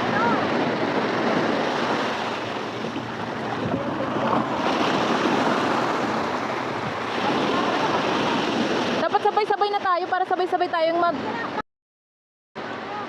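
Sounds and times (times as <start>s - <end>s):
sea surf rushing: 0.0s - 11.6s, 12.6s - 13.0s
wind: 0.0s - 11.6s, 12.6s - 13.0s.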